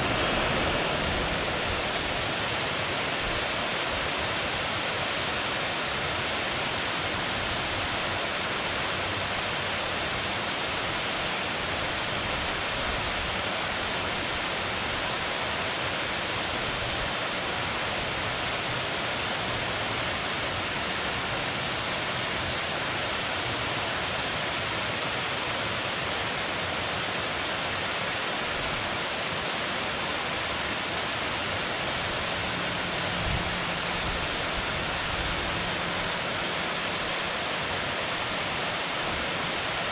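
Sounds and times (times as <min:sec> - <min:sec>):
river flowing: 0:00.0 - 0:39.9
water rushing from a dam: 0:00.0 - 0:39.9.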